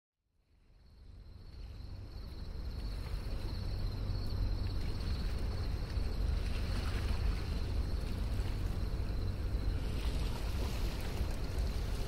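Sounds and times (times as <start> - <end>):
insects chirring: 0.5 - 12.0
low rumble: 0.6 - 12.0.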